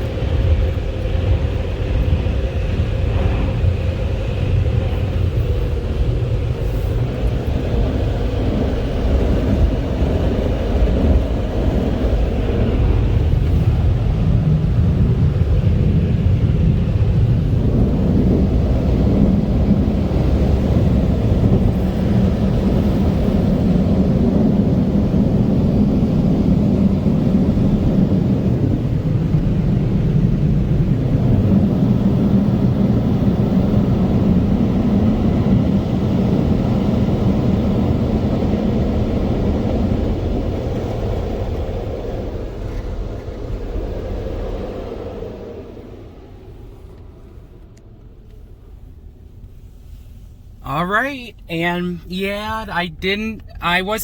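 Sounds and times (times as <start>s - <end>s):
car wash blower dryers: 0.0s - 54.0s.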